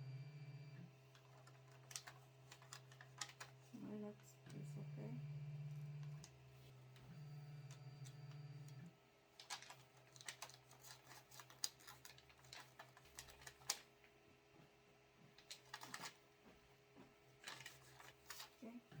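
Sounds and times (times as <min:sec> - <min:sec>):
faint clicking and tapping: 0:01.0 - 0:04.9, 0:05.7 - 0:19.0.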